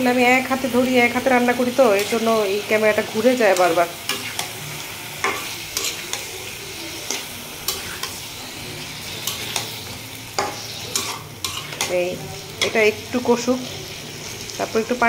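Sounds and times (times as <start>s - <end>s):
chicken sizzling in a pan: 0.0s - 15.0s
spatula scraping a pan: 1.6s - 14.5s.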